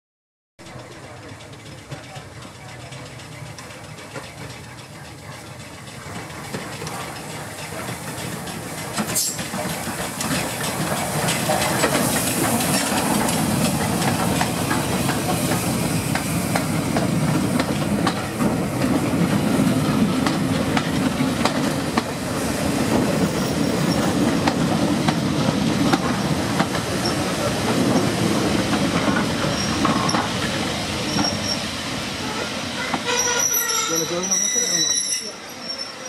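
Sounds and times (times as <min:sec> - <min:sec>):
train wheels clicking over rail joints: 0:00.6 - 0:31.7
steam hissing: 0:03.0 - 0:36.0.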